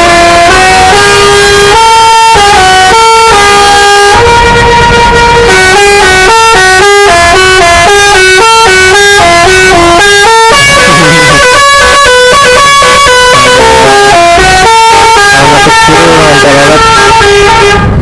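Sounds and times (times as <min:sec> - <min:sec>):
musical air horn playing tune: 0:00.0 - 0:18.0.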